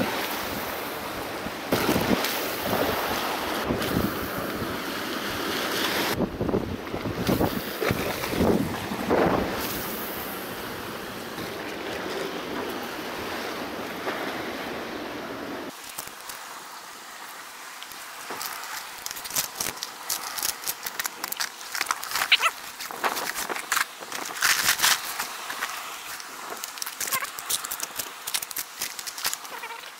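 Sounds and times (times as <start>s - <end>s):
rough sea washing against rocks: 0.0s - 29.9s
wind: 0.0s - 29.9s.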